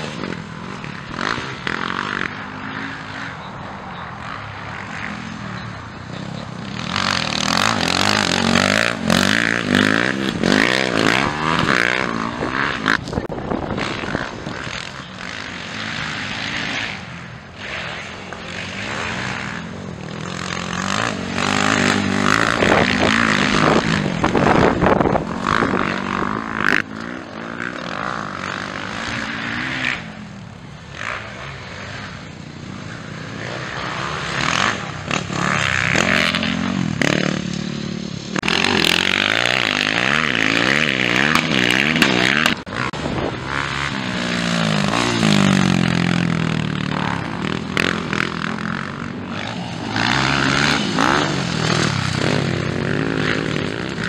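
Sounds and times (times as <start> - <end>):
dirt bike engines revving: 0.0 - 54.0
motorbikes passing by: 0.0 - 54.0.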